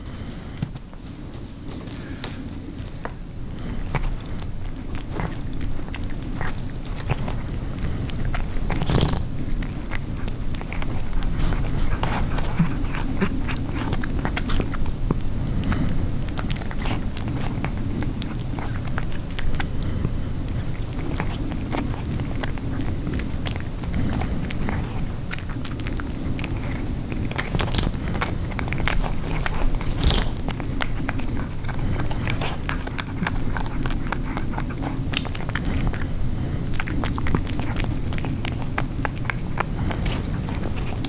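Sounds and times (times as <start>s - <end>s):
cat crunching bone: 0.6s - 41.0s.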